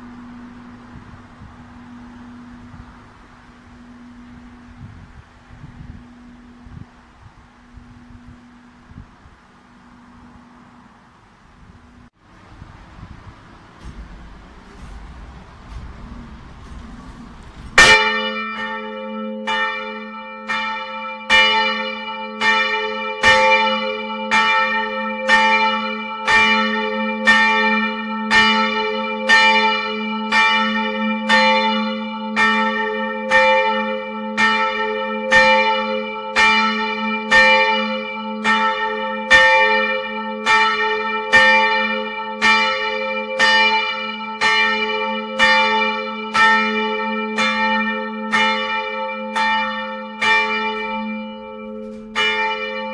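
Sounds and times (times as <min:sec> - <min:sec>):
church bell ringing: 0:00.0 - 0:10.9, 0:16.1 - 0:52.9.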